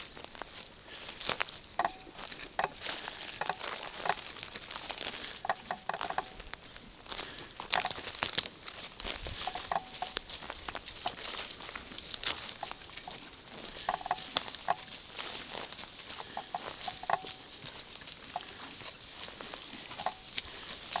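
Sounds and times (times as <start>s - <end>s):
horses chewing dry grass: 0.0s - 21.0s
rustling of steps in grass: 0.0s - 21.0s.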